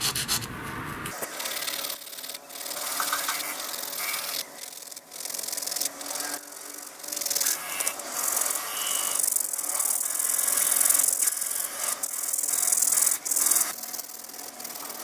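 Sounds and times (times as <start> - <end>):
file rasping on metal: 2.6 - 15.0.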